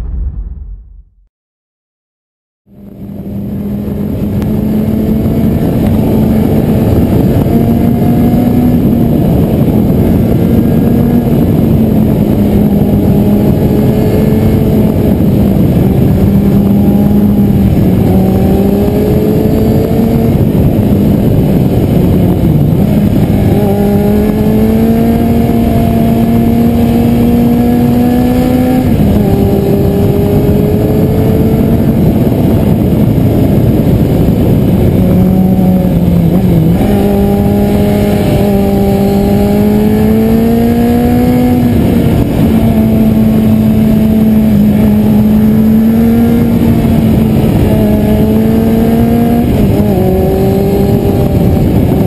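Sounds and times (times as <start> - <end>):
motorcycle engine revving: 2.7 - 52.0.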